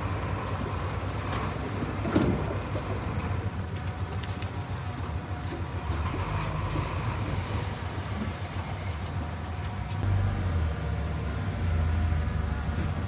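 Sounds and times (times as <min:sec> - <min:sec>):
heavy diesel machinery rumbling: 0:00.0 - 0:13.0.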